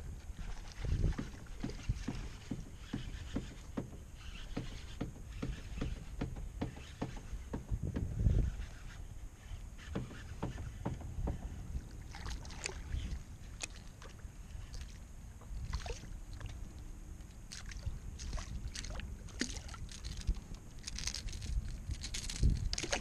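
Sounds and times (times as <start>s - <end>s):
wind on microphone: 0.0s - 16.8s, 17.4s - 23.0s
water lapping against kayak: 0.0s - 23.0s.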